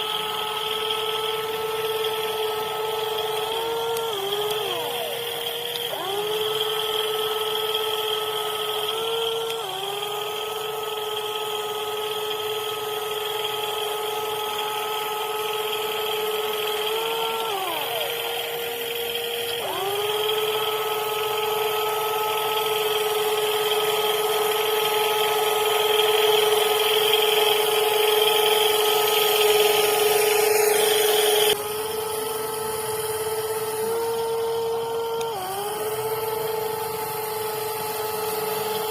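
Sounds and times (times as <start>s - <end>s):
toy excavator motors whining: 0.0s - 38.9s.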